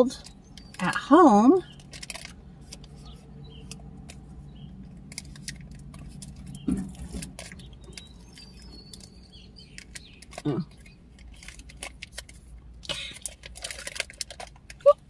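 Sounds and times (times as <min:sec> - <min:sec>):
wrapper crinkling: 0:01.7 - 0:15.0.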